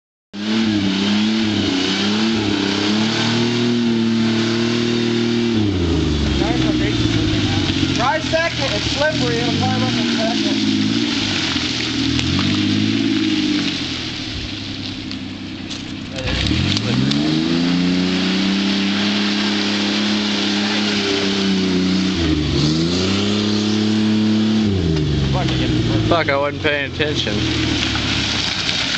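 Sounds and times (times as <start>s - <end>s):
off-road vehicle engine revving: 0.4s - 28.9s.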